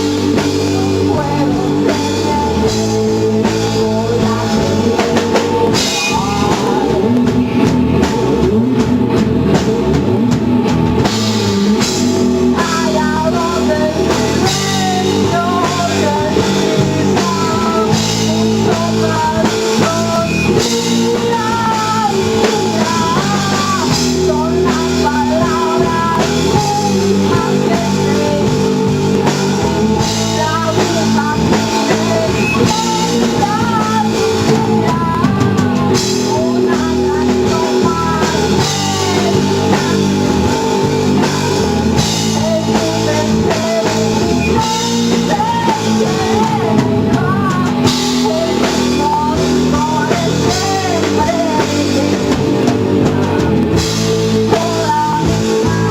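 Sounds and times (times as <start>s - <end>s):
person singing: 0.0s - 55.9s
rock band playing live: 0.0s - 55.9s.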